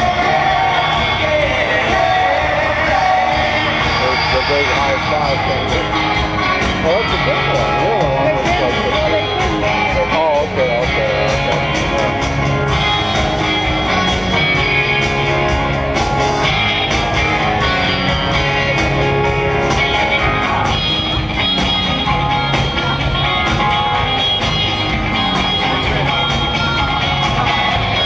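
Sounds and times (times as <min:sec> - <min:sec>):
electric guitar: 0:00.0 - 0:28.0
steady drum beat: 0:00.0 - 0:28.0.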